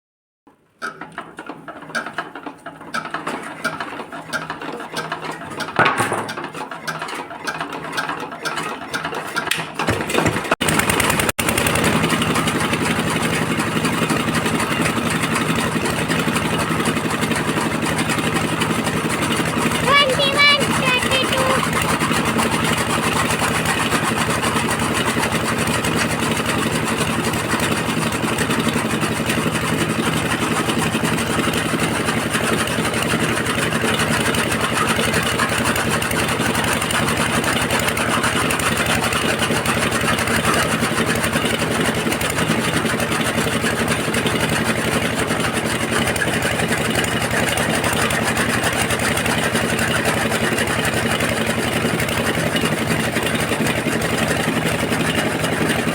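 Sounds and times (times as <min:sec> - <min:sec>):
diesel engine running: 0:10.4 - 0:55.9.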